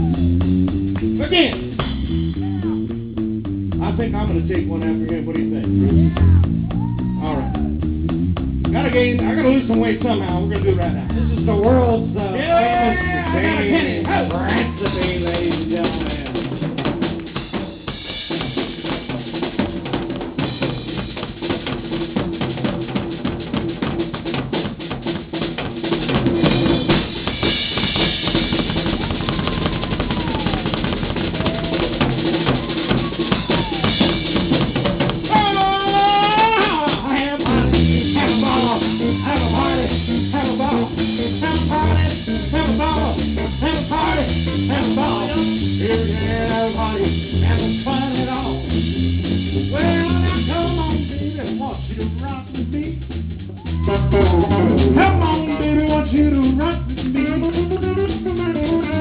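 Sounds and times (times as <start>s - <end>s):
band playing with bass: 0.0s - 59.0s
drum kit solo: 0.0s - 59.0s.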